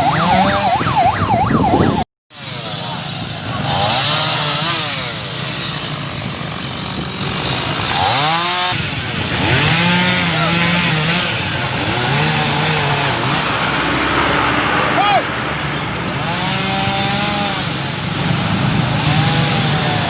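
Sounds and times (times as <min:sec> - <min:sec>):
chainsaw revving: 0:02.4 - 0:14.9, 0:16.0 - 0:20.0.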